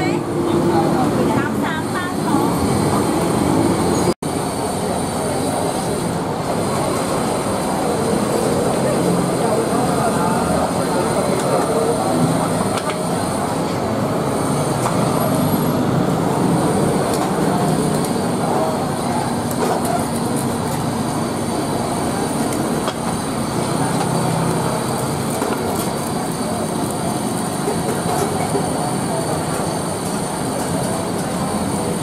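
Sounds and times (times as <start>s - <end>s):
gas burner roaring: 0.0s - 32.0s.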